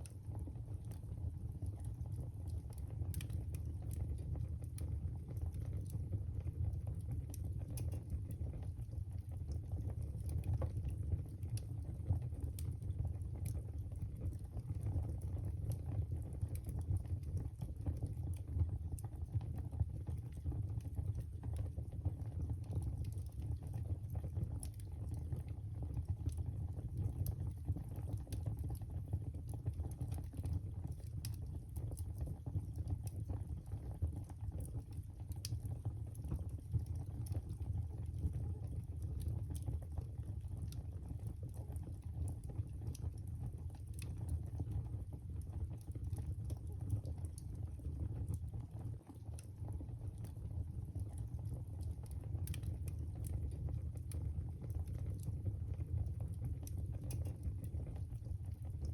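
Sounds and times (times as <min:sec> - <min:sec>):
low fire rumble: 0:00.0 - 0:58.9
wood fire crackling: 0:00.0 - 0:58.9.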